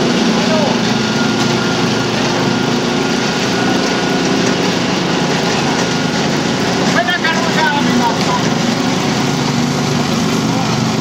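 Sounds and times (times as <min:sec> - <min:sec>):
small petrol engine running: 0:00.0 - 0:11.0.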